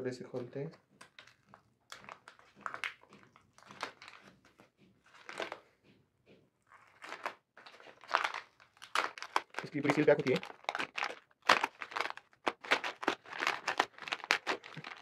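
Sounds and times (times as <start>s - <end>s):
paper envelope crinkling: 1.1s - 5.6s, 6.7s - 15.0s.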